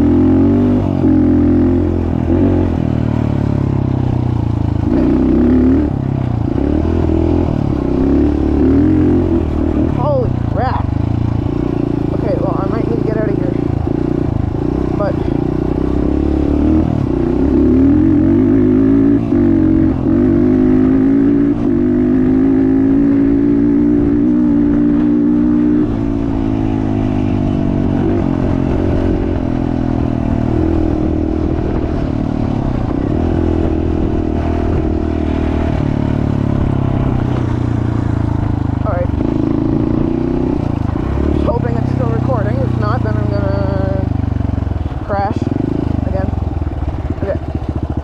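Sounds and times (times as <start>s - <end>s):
off-road vehicle engine revving: 0.0s - 48.0s.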